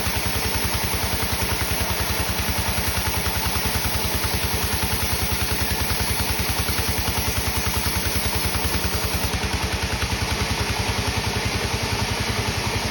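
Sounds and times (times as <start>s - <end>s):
sawmill engine throbbing: 0.0s - 12.9s.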